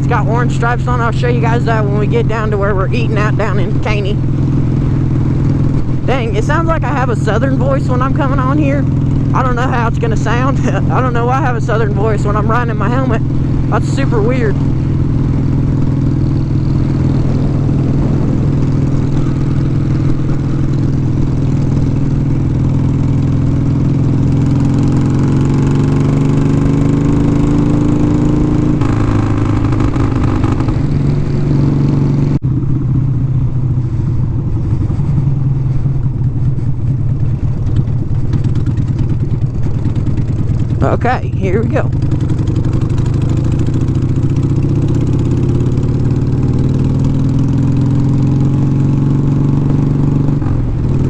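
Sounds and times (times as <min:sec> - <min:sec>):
motorcycle engine while riding: 0:00.0 - 0:51.0.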